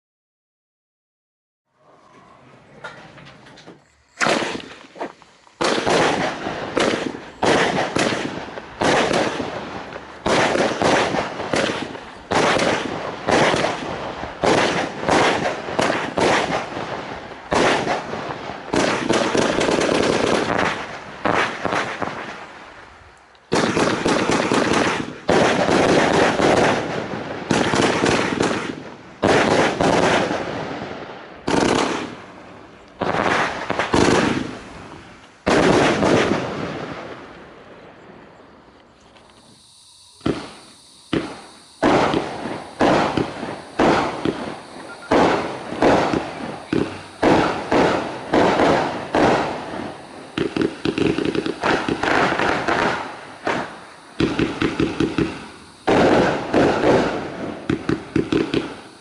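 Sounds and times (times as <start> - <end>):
fireworks launching and bursting: 2.9 - 59.0.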